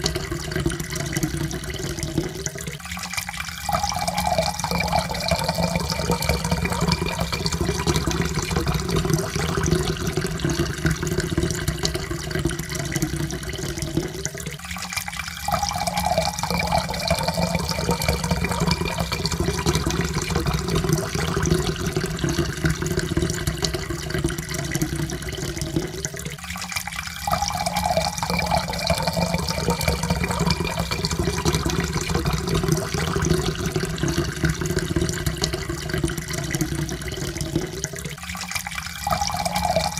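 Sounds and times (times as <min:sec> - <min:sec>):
water pouring into a cup: 0:00.0 - 0:39.9.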